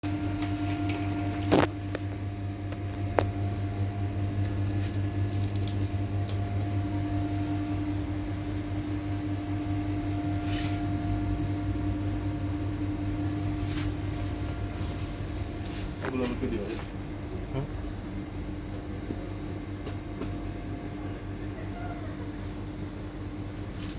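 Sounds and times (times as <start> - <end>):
electrical machine hum: 0.0 - 23.9.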